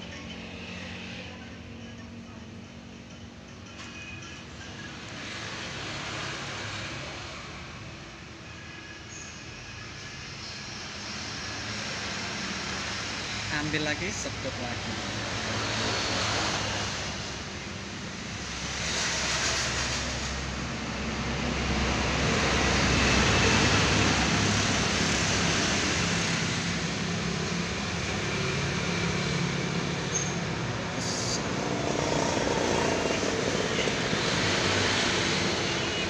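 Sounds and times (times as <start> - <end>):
motorcycle engines: 0.0 - 8.6, 10.2 - 36.0
steady traffic hum: 0.0 - 36.0.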